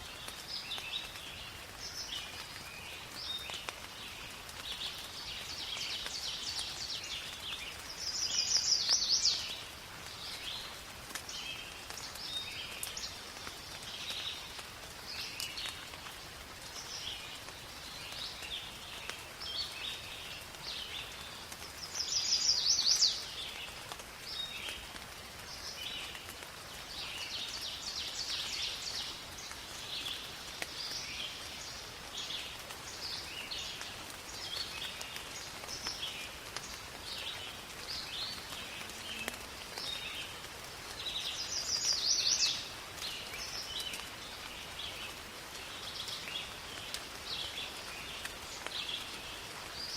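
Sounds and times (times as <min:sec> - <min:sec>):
rain falling in forest: 0:00.0 - 0:49.9.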